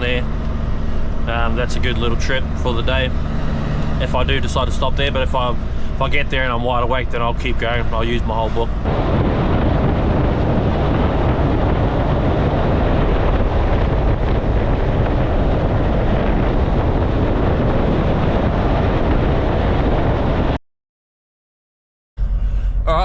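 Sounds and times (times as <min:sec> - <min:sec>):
truck engine running: 0:00.0 - 0:20.5
wind and road noise: 0:00.0 - 0:20.6.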